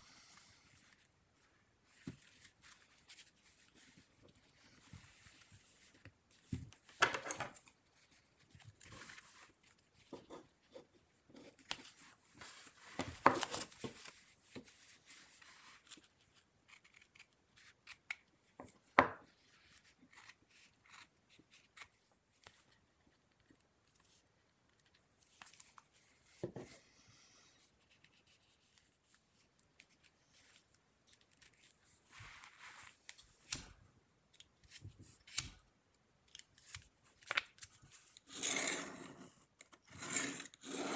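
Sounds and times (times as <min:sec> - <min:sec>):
cord rustling: 0:00.1 - 0:35.6.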